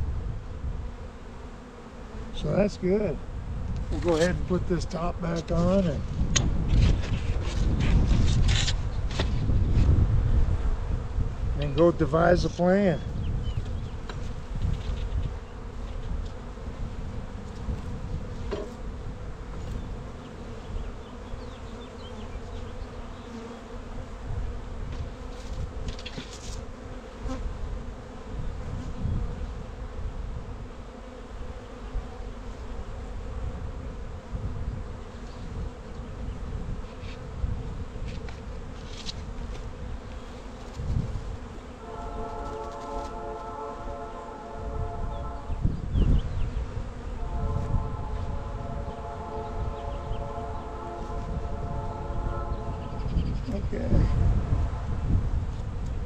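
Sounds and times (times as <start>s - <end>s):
wind rumbling on microphone: 0.0s - 1.1s, 2.3s - 56.0s
bees buzzing: 0.0s - 9.8s, 10.5s - 56.0s.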